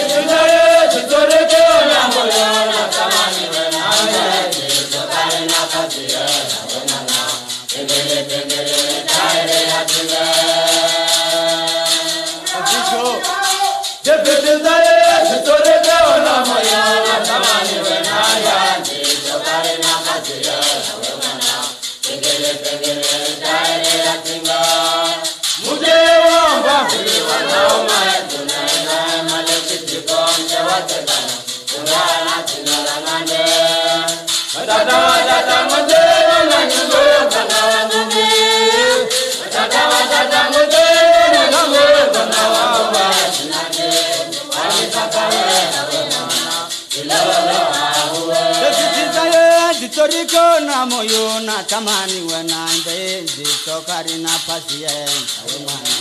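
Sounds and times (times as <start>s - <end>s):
shaker rattle beat: 0.0s - 56.0s
voices singing together: 0.0s - 56.0s.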